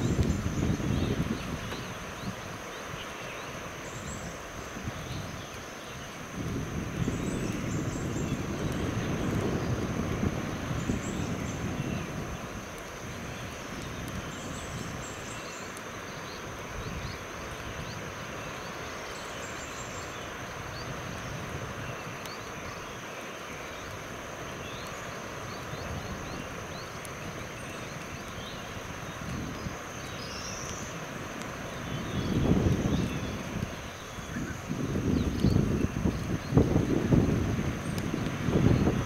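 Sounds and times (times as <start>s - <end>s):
wind rumble on microphone: 0.0s - 23.1s, 23.8s - 39.0s.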